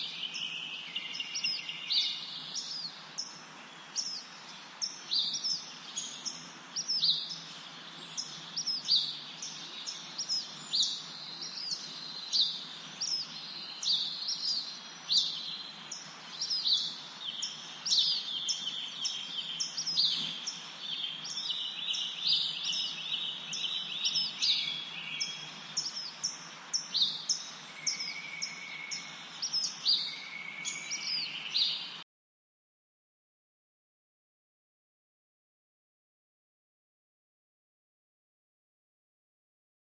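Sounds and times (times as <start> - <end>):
songbirds chirping: 0.0 - 32.0
steady background hiss: 0.0 - 32.0.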